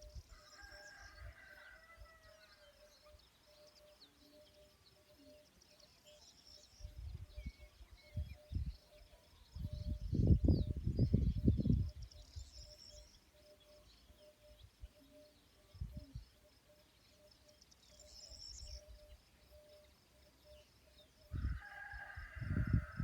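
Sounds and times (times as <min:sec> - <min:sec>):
faint pulsing chirr: 0:00.0 - 0:23.0
small birds chirping: 0:02.2 - 0:21.9.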